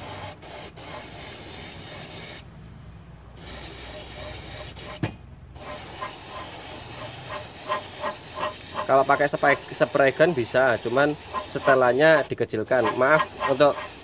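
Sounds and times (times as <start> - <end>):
airbrush spraying hiss: 0.0 - 2.4, 3.4 - 5.0, 5.6 - 14.0.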